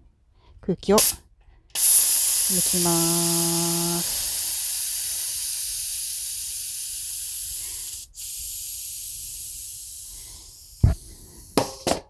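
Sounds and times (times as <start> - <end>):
air hissing out of tyre valve: 1.0 - 1.2, 1.8 - 12.0.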